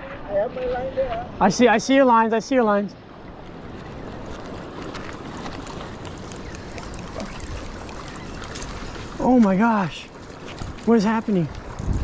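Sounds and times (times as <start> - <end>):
moving water: 0.0 - 12.0
wind: 0.0 - 12.0.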